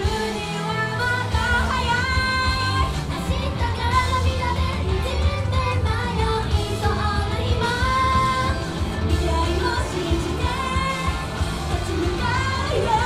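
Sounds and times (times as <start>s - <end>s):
backing track with strong bass: 0.0s - 13.0s
woman singing pop song: 0.0s - 13.0s.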